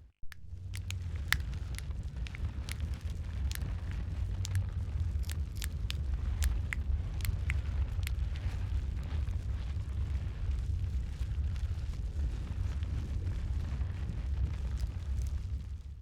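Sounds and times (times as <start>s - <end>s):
low rumble of burning: 0.0s - 16.0s
wood fire crackling: 0.2s - 16.0s.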